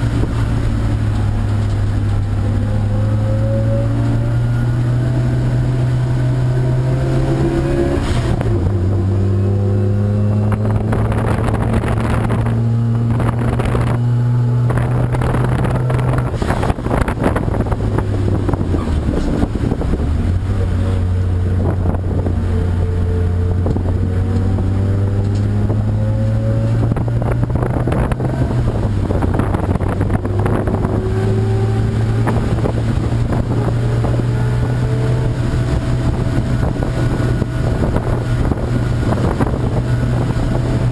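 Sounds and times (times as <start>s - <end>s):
race car engine: 0.0s - 40.9s.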